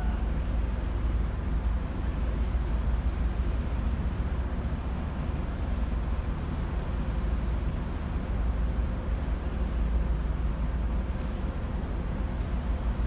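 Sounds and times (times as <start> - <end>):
ship deck rumble and hiss: 0.0 - 13.0.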